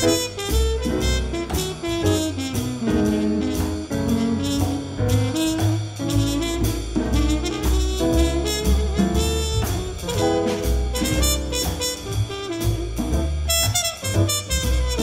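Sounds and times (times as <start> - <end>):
drums: 0.0 - 15.0
muted trumpet jazz solo: 0.0 - 15.0
plucked upright bass: 0.0 - 15.0.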